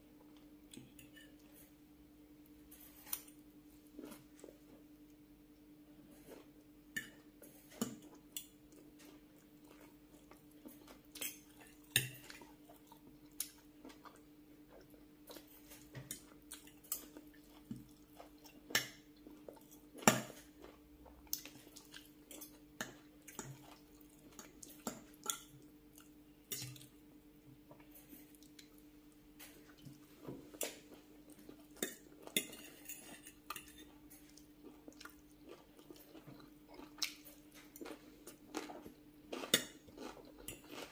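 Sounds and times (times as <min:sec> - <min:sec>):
soft chewing: 0:00.1 - 0:40.9.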